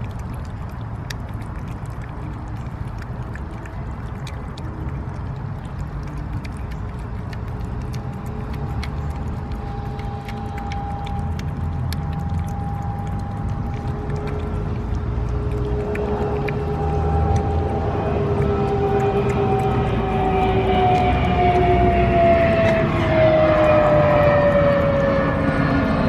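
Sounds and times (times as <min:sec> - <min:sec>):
cats chewing and lapping food: 0:00.0 - 0:26.0
faint steady hum: 0:00.0 - 0:26.0
steady low rumble: 0:00.0 - 0:26.0.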